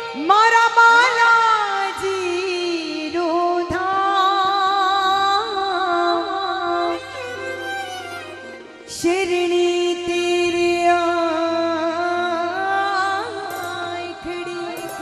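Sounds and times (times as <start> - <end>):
woman singing: 0.0 - 8.3, 8.9 - 15.0
music accompaniment: 0.0 - 15.0.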